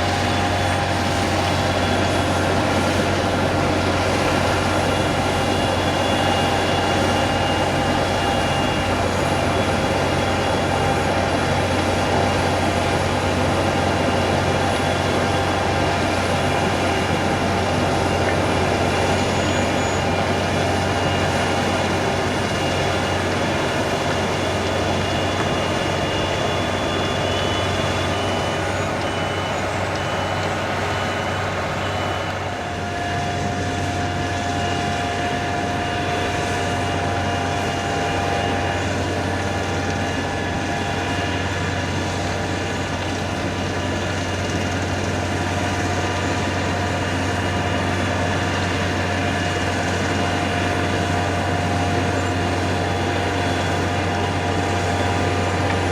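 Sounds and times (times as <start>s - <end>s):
heavy vehicle engine running: 0.0s - 55.9s.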